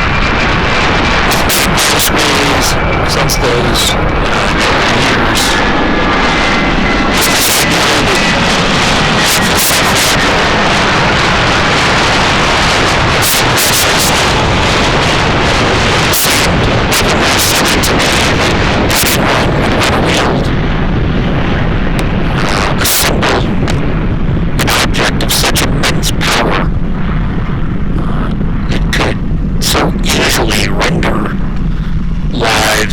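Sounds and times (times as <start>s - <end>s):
explosions: 0.0s - 32.9s.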